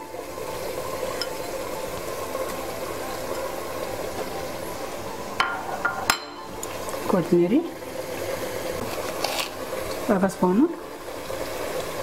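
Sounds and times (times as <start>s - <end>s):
water boiling in a pot: 0.0s - 12.0s.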